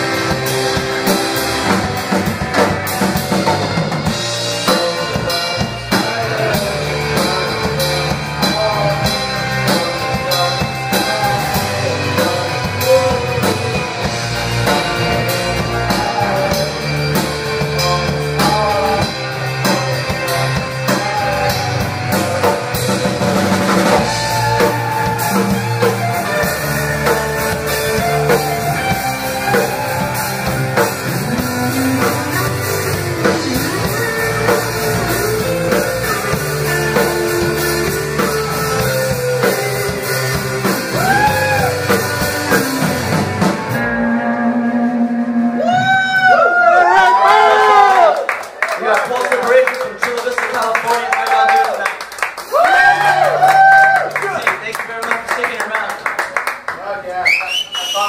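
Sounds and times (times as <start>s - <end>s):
electric guitar: 0.0s - 48.3s
drum kit beat: 0.0s - 48.4s, 49.1s - 56.7s
bass guitar: 0.0s - 48.6s, 51.0s - 55.5s.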